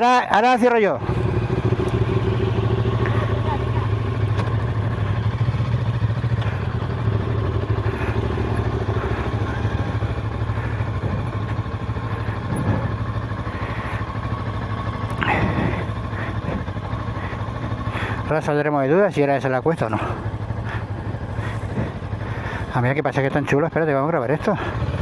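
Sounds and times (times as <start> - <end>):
motorcycle engine idling: 0.0 - 25.0
engine knock: 1.0 - 25.0.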